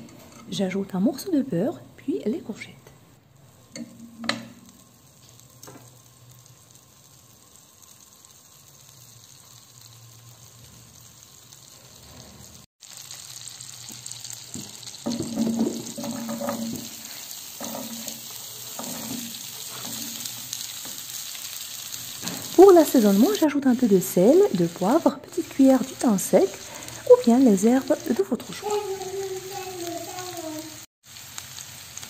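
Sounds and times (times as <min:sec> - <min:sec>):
butter sizzling in frying pan: 0:03.3 - 0:32.0.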